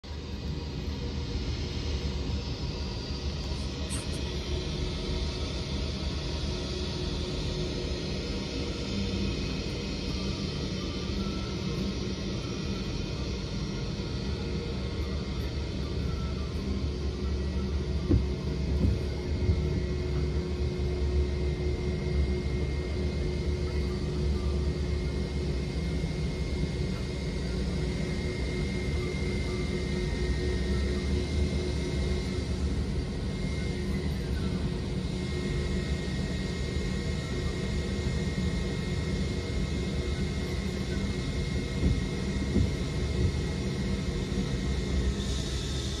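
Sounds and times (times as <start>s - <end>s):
jet engines idling: 0.1s - 46.0s.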